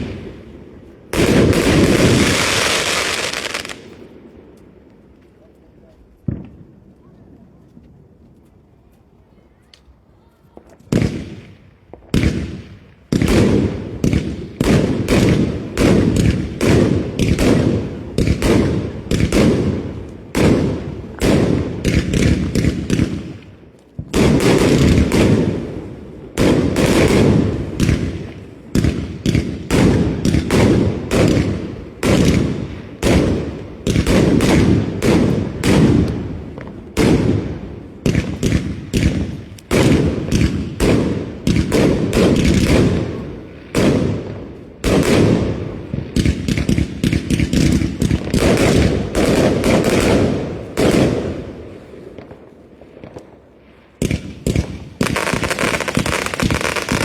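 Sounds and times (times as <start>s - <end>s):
fireworks banging: 0.0s - 5.4s, 10.5s - 57.0s.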